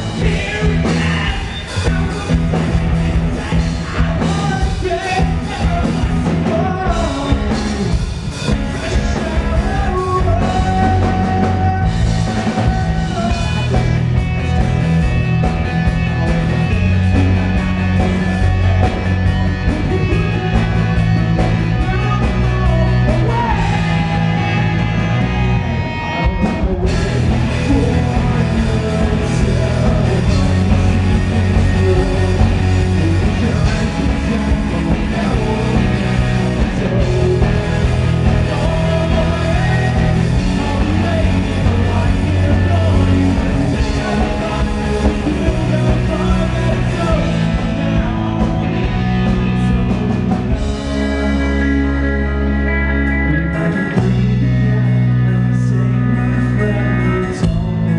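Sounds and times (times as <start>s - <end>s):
person singing: 0.0s - 14.1s, 16.1s - 57.9s
rock band playing live: 0.0s - 57.9s.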